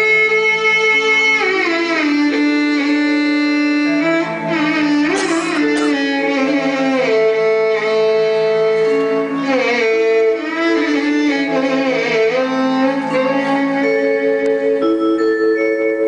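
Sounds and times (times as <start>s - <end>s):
sliding melody of held notes: 0.0s - 16.0s.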